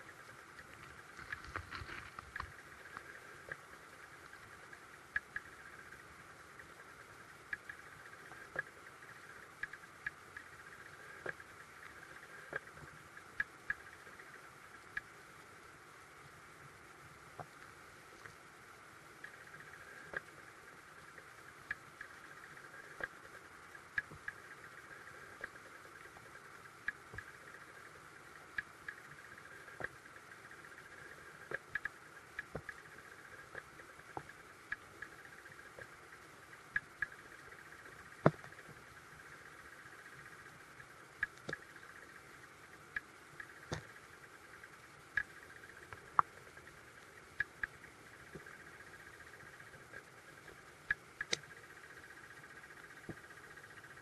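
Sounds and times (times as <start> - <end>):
underwater clicks and ticks: 0.0 - 54.0.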